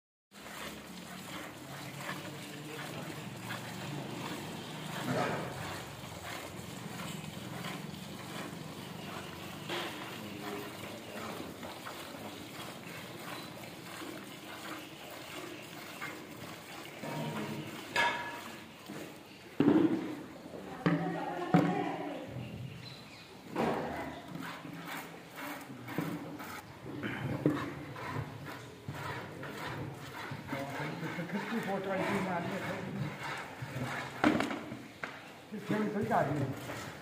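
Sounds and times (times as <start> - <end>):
milk squirting into buckets: 0.3 - 21.7, 23.3 - 37.0.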